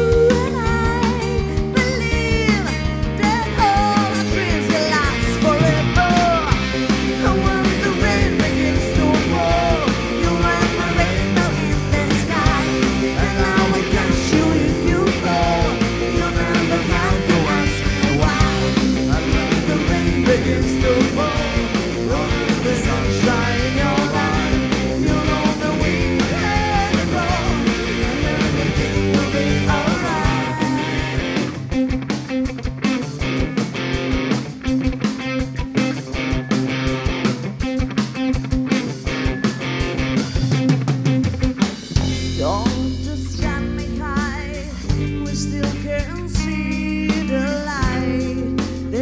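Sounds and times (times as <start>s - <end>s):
bass guitar: 0.0s - 49.0s
drum kit: 0.0s - 49.0s
electric guitar: 0.0s - 49.0s.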